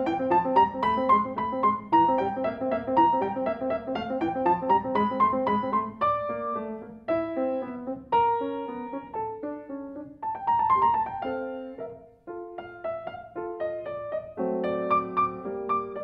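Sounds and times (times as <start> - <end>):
piano notes and chords: 0.0 - 16.0.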